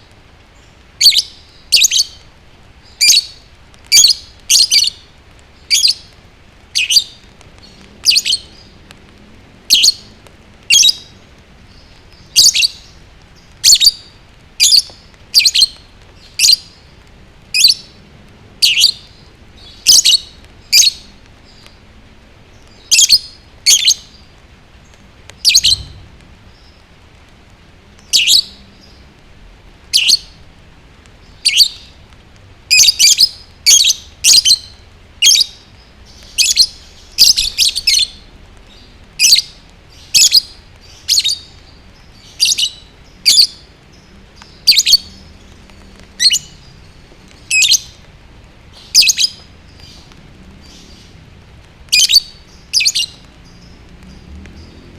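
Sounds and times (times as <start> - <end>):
lovebird chirping: 0.6 - 8.9, 9.7 - 18.0, 18.6 - 21.8, 22.5 - 26.8, 28.0 - 29.1, 29.9 - 30.4, 31.2 - 32.0, 32.7 - 48.1, 48.7 - 51.2, 51.9 - 54.9.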